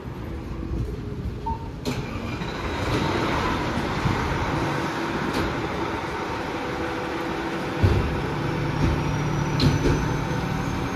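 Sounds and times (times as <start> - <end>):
diesel engines rumbling: 0.0 - 10.9.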